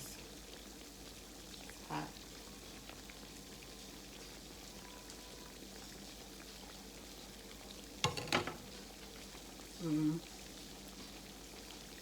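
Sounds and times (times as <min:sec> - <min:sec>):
food frying in hot oil: 0:00.0 - 0:12.0.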